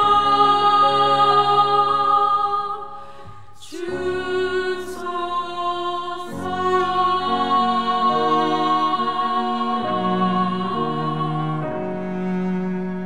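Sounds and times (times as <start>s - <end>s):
women's choir singing a hymn: 0.0s - 12.1s
cello accompaniment: 0.0s - 13.0s.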